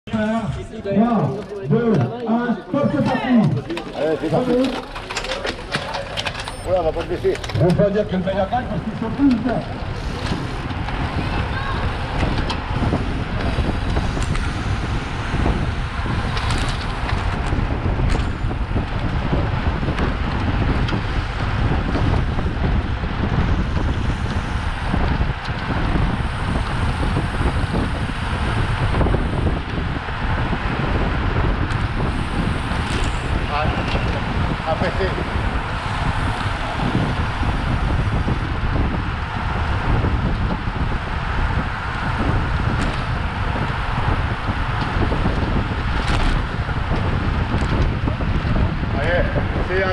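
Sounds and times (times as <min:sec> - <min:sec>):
road and tyre rumble: 0:00.1 - 0:49.9
wind buffeting microphone: 0:00.1 - 0:49.9.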